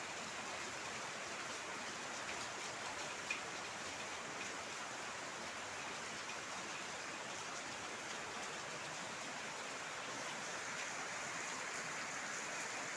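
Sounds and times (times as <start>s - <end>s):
heavy rain falling: 0.0s - 12.9s.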